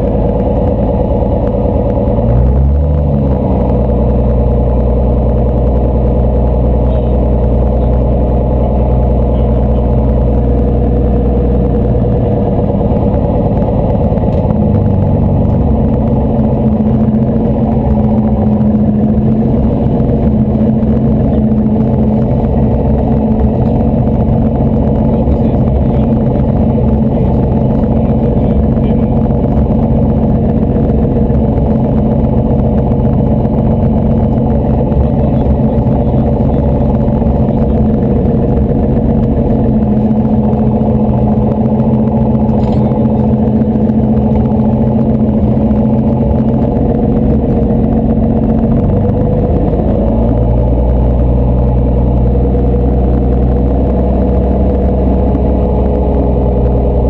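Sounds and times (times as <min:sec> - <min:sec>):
plane engine and propeller: 0:00.0 - 0:57.0.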